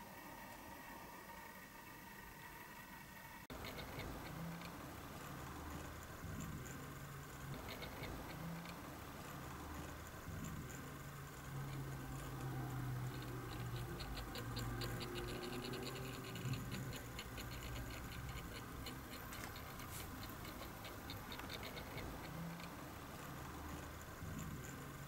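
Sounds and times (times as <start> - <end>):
turntable drive ticking: 3.5 - 25.0.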